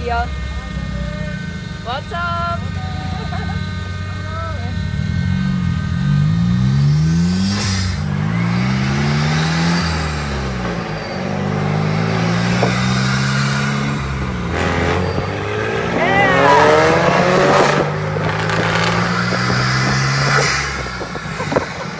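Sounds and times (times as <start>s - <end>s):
turbocharged engine accelerating: 0.0s - 21.9s.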